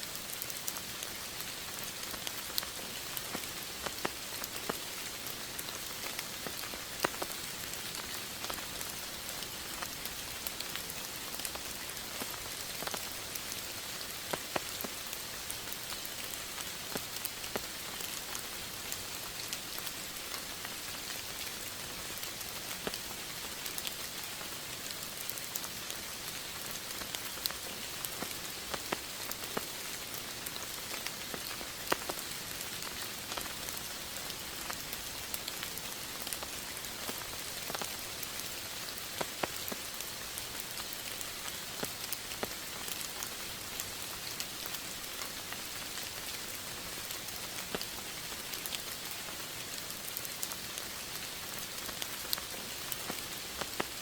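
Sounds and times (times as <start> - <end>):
raindrops tapping a surface: 0.1 - 54.0.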